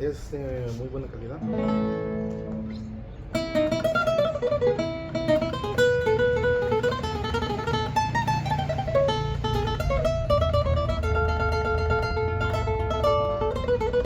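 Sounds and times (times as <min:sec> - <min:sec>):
solo guitar plucked melody: 0:01.4 - 0:14.0.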